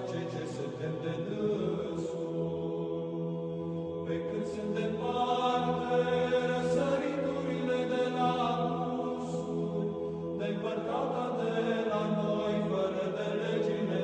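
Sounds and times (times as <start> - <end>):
choir chanting slow melody: 0.0 - 14.0.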